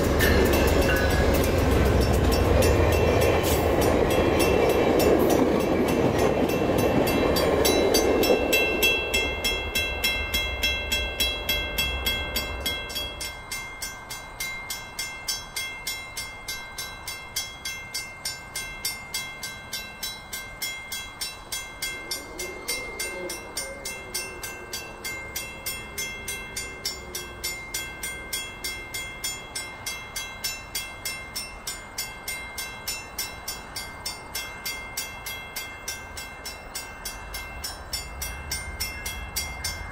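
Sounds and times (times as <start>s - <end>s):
level-crossing warning bell: 0.0s - 39.9s
train cars rolling past: 0.0s - 39.9s.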